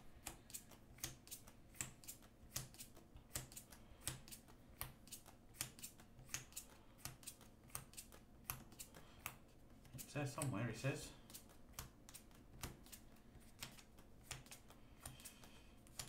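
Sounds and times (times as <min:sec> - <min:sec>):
cards flicking with soft clicks: 0:00.2 - 0:10.6, 0:11.3 - 0:16.0.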